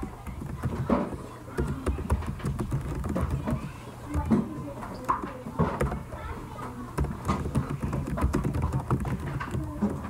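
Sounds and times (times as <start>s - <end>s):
faint overlapping voices: 0.0s - 10.0s.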